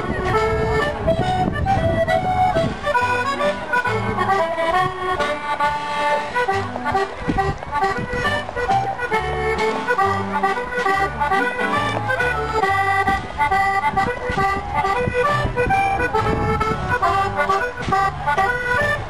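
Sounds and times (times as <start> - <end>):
accordion dance music: 0.0 - 19.0
bass and chord accompaniment: 0.0 - 19.0.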